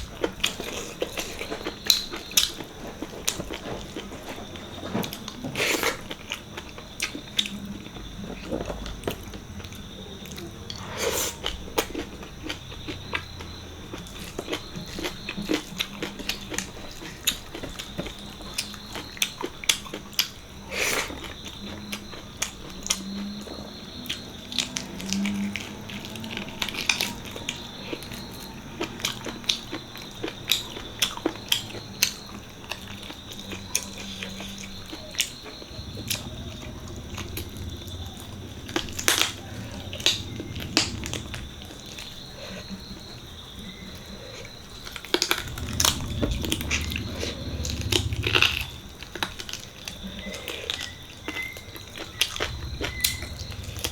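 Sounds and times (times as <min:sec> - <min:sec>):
chewing and biting: 0:00.0 - 0:53.9.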